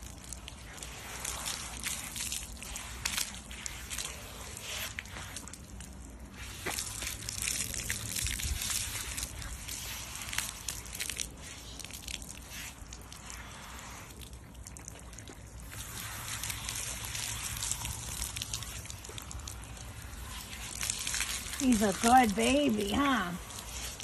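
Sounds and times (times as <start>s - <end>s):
hose water spraying on dog: 0.0s - 24.0s
water dripping on pavement: 0.0s - 24.0s.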